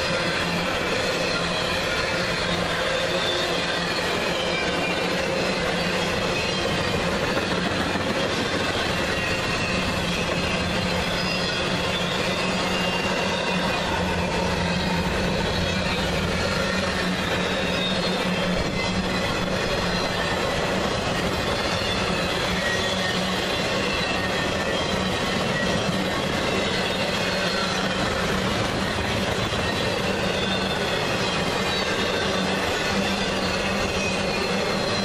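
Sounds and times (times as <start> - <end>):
high wheel squeal: 0.0 - 35.0
train wheels rumbling on rail: 0.0 - 35.0.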